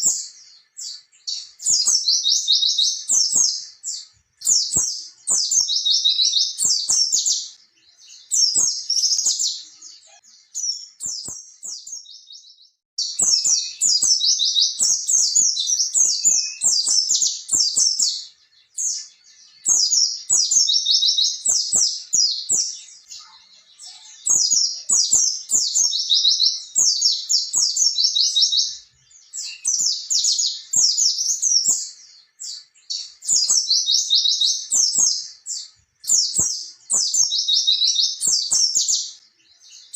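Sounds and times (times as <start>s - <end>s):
white-eye bird singing: 0.0s - 39.9s.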